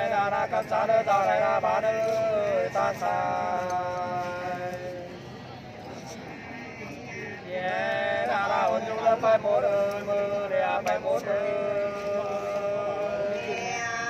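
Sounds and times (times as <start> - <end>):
two men singing unaccompanied: 0.0 - 5.2, 7.1 - 14.0.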